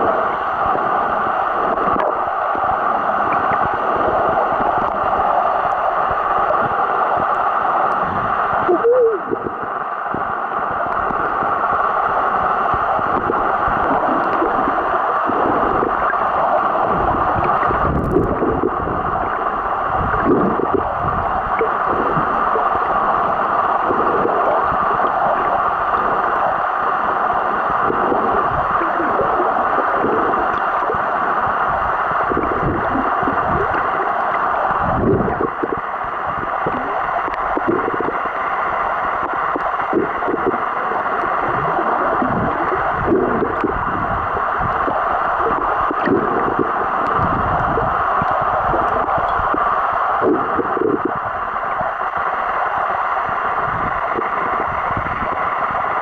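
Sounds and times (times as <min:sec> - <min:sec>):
low underwater gurgles: 0:00.0 - 0:56.0
muffled underwater rush: 0:00.0 - 0:56.0.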